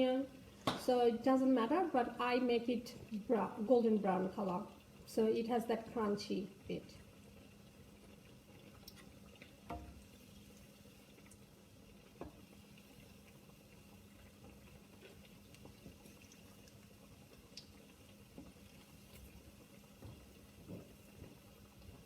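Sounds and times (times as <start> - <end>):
hot oil crackling and popping: 0.0 - 22.0.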